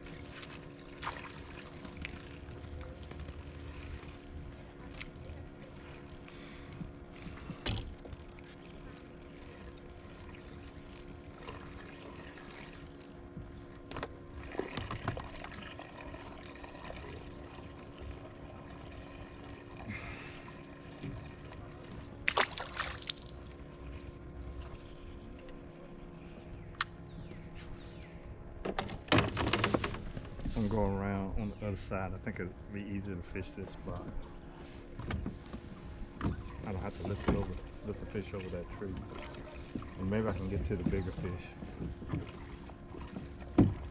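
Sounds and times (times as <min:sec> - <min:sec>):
steady hum: 0:00.0 - 0:43.9
water lapping around boat: 0:00.0 - 0:43.9.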